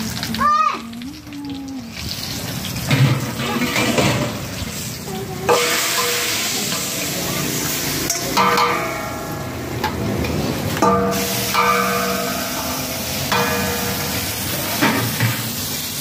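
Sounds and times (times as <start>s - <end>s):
ghee and spices sizzling in a pot: 0.0s - 16.0s.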